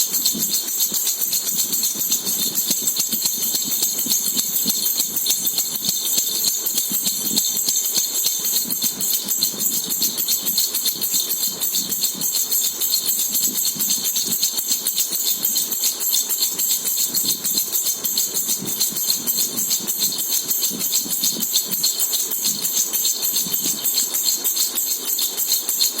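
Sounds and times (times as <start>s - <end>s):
baby rattle jingling: 0.0s - 26.0s.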